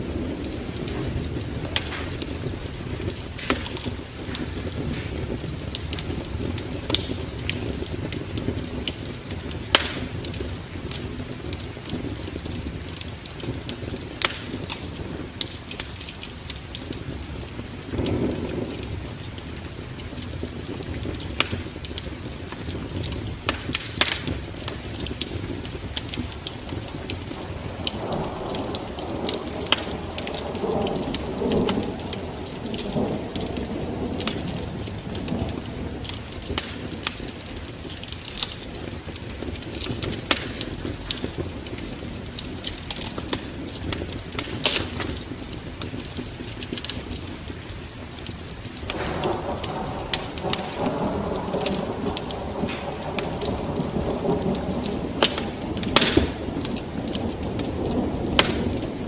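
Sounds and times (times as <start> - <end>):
thunder rumbling: 0.0 - 59.0
wood fire crackling: 0.0 - 59.0.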